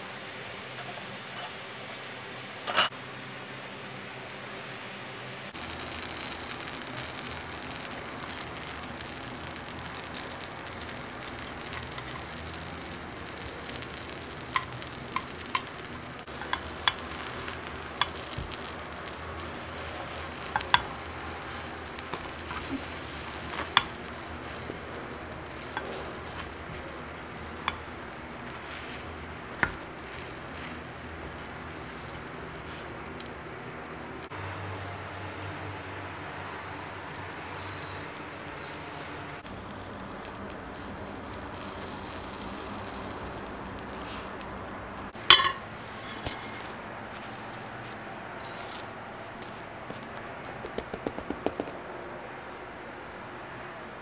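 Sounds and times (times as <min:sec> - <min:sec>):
omelette sizzling in a pan: 0:05.4 - 0:50.0, 0:50.6 - 0:51.7.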